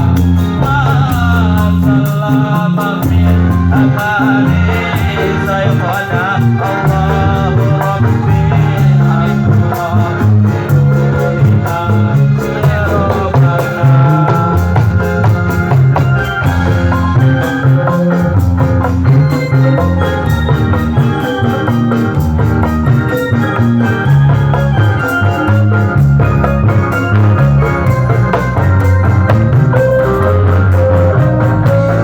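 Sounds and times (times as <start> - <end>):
bass line: 0.0 - 32.0
frame drums: 0.0 - 32.0
keyboard melody: 0.0 - 32.0.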